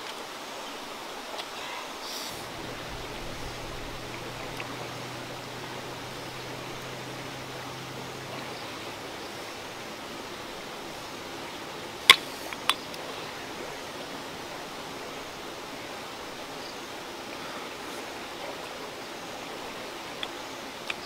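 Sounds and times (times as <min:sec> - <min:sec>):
steady rushing background noise: 0:00.0 - 0:21.0.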